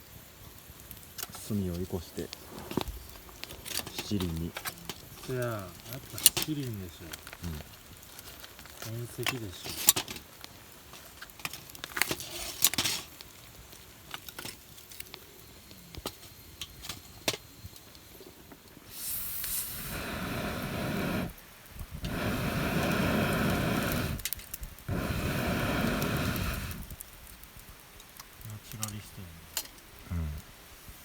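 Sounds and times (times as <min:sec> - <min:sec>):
air blown onto coals: 0:00.2 - 0:31.0.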